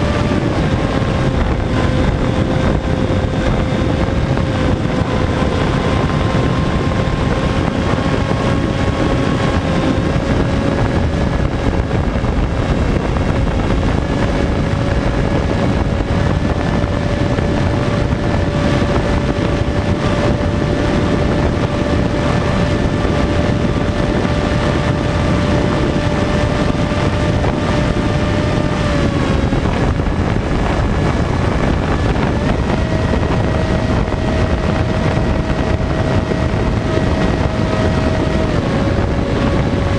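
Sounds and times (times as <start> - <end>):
electric motor and propeller whine: 0.0 - 39.9
wind rush on microphone: 0.0 - 39.9.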